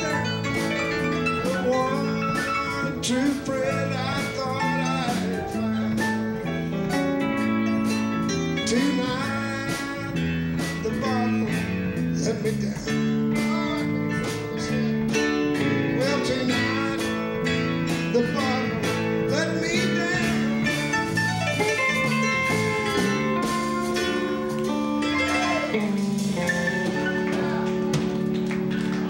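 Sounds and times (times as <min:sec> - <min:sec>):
bass: 0:00.0 - 0:29.0
electric guitar lead: 0:00.0 - 0:29.0
keyboard chords: 0:00.0 - 0:29.0
steady drum beat: 0:00.0 - 0:29.0.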